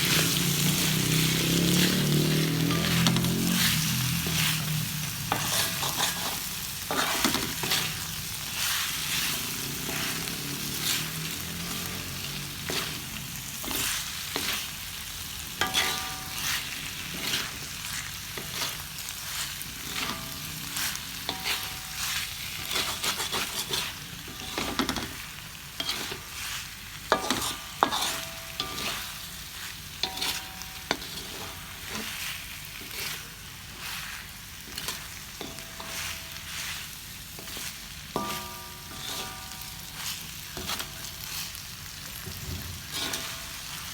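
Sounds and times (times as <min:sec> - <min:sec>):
food sizzling in a pan: 0:00.0 - 0:43.9
metal utensil scraping a pan: 0:00.0 - 0:43.9.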